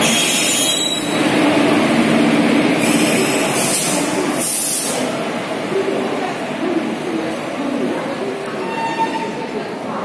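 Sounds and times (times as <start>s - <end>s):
train rumbling and rattling: 0.0s - 10.0s.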